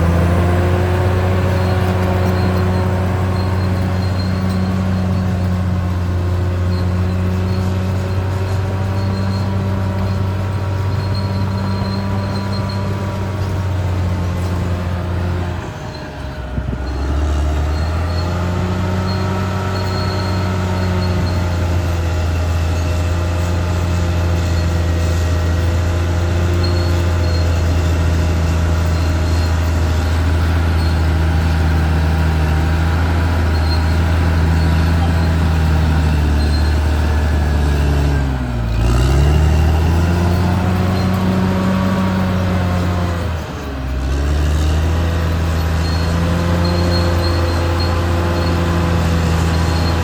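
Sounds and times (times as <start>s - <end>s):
bulldozer diesel engine under load: 0.0s - 50.0s.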